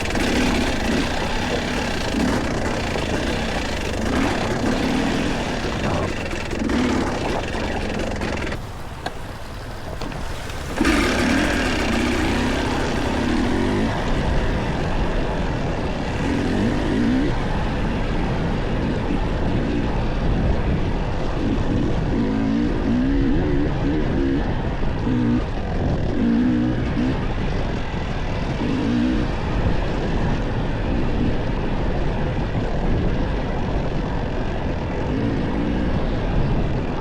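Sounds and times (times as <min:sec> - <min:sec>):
dirt bike engine revving: 0:00.0 - 0:32.1, 0:34.6 - 0:37.0
wind noise: 0:00.0 - 0:37.0.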